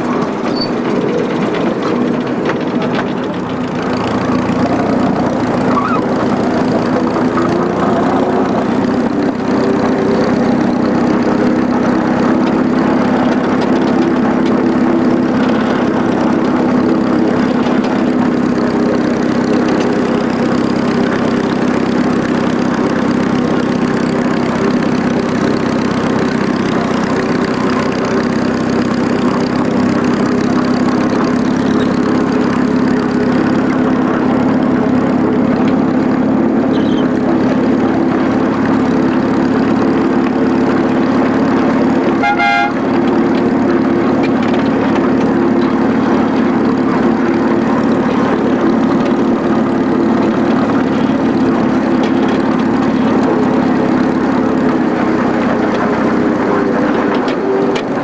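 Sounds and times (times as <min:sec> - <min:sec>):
miniature locomotive engine running: 0:00.0 - 0:58.0.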